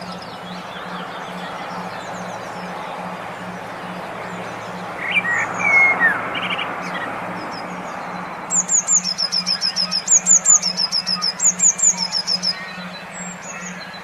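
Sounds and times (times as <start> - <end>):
low pulsing hum: 0.0 - 14.0
songbird chirping and whistling: 0.0 - 14.0.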